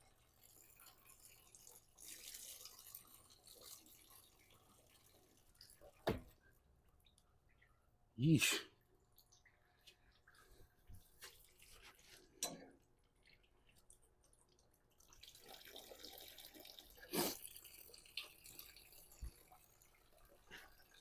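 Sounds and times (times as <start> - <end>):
coolant trickling and dripping: 0.0 - 21.0.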